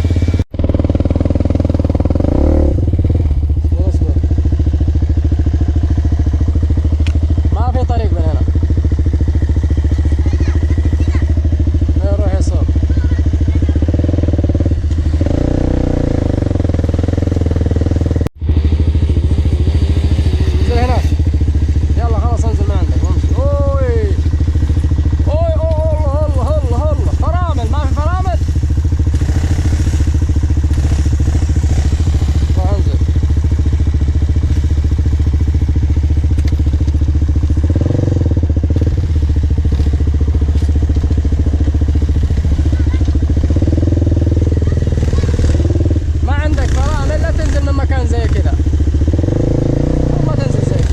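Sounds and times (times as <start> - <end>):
off-road bike engine running: 0.0 - 50.9.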